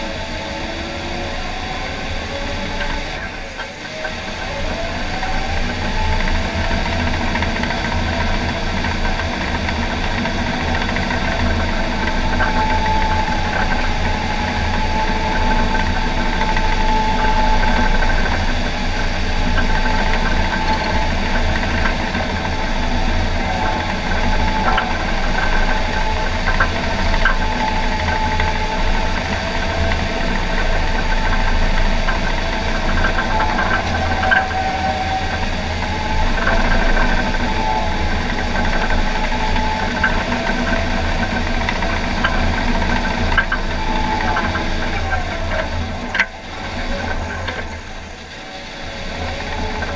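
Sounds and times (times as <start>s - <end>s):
dozer diesel engine running: 0.0s - 49.9s
faint whine: 0.0s - 49.9s.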